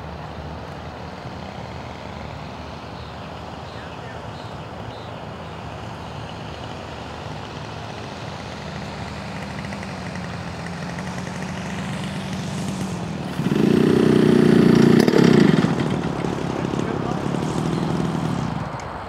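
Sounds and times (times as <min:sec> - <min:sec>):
model plane engine running: 0:00.0 - 0:19.0.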